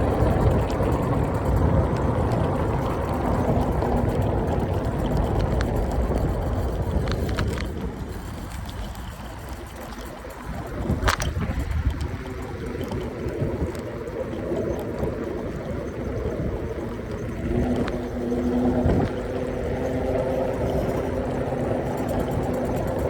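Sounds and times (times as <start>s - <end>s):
scooter road and tyre noise: 0.0s - 23.0s
sharp clicks and rattles: 0.0s - 23.0s
wind rumbling on microphone: 0.0s - 23.0s.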